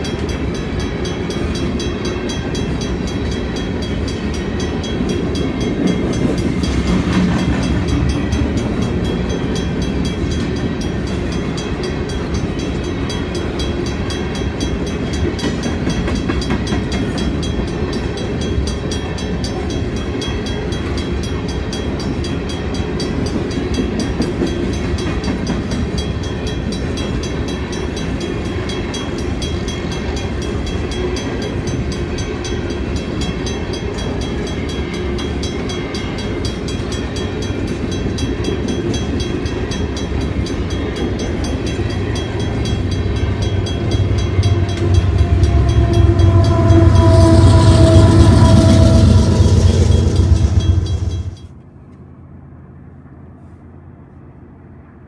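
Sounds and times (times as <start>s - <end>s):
freight train wheels on rails: 0.0s - 53.6s.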